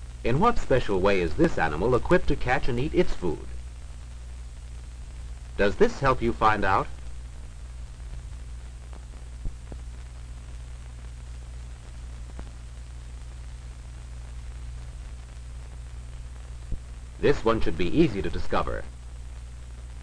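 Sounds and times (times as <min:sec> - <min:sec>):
film soundtrack hiss: 0:00.0 - 0:20.0
low hum: 0:00.0 - 0:20.0.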